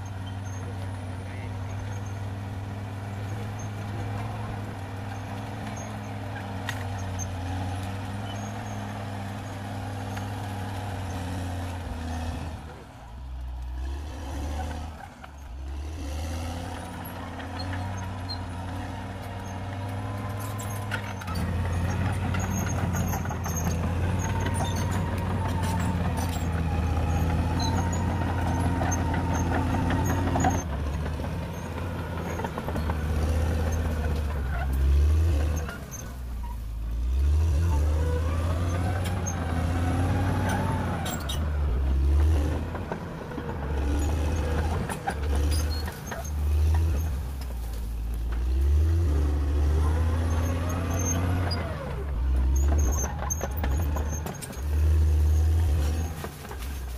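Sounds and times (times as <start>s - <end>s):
bulldozer diesel engine working: 0.0s - 56.9s.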